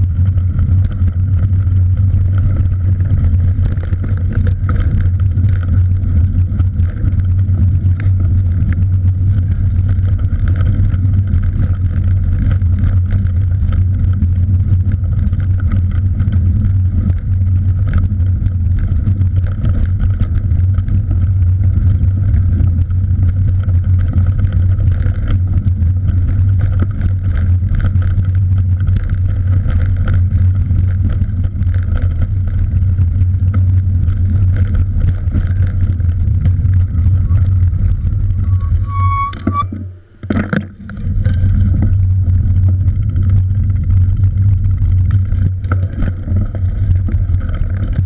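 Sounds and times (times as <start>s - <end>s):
small ticks from road surface: 0.0s - 38.6s
wind and road roar: 0.0s - 48.0s.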